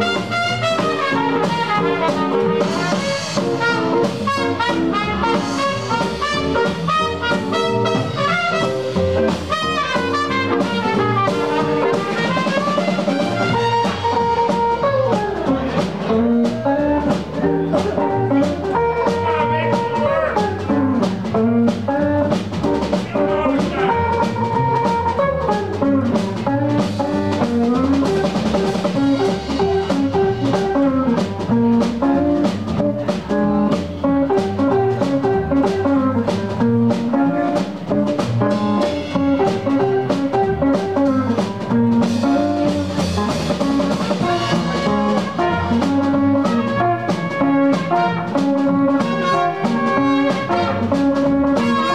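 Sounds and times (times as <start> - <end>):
saxophone melody: 0.0 - 22.2, 23.1 - 51.9
drum kit steady beat: 0.0 - 51.9
electric guitar: 0.0 - 51.9.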